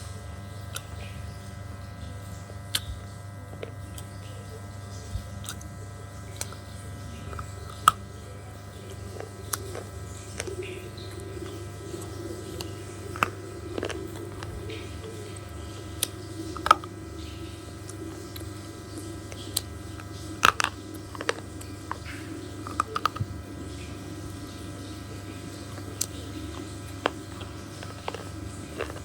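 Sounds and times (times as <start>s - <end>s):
electrical hum: 0.0s - 29.0s
slate crunching when chewed: 0.0s - 29.0s.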